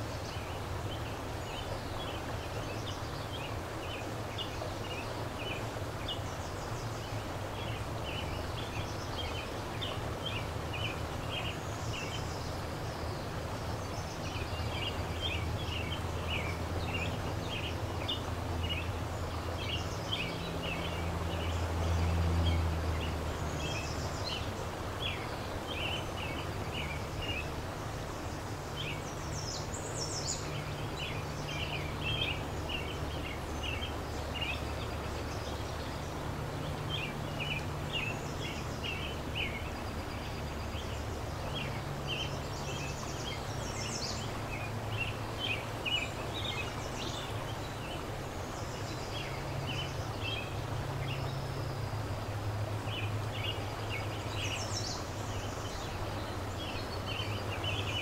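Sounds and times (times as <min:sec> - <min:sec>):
fast-flowing river rushing: 0:00.0 - 0:58.0
small birds chirping: 0:00.0 - 0:58.0.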